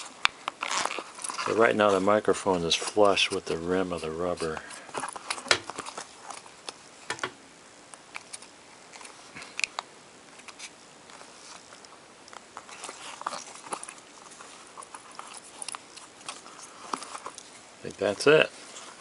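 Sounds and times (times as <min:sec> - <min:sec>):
rubber mask handling clicks and rubs: 0:00.0 - 0:19.0.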